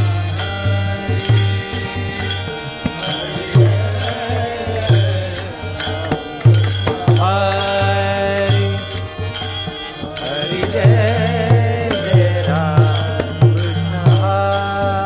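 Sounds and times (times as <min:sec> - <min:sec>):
cymbal jingle strikes: 0:00.0 - 0:07.8, 0:08.5 - 0:15.0
wavering melody: 0:00.0 - 0:15.0.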